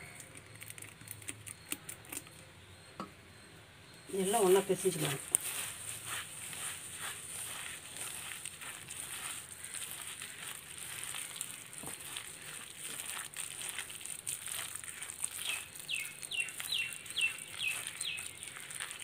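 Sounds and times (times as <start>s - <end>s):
hands squishing wet batter: 0.0s - 2.4s, 4.2s - 19.0s
bird chirping: 0.0s - 19.0s.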